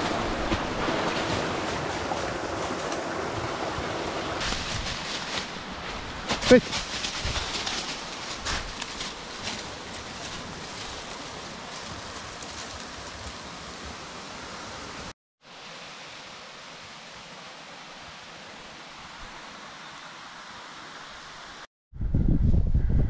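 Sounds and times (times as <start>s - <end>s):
creek and small waterfall rushing: 0.0s - 21.7s.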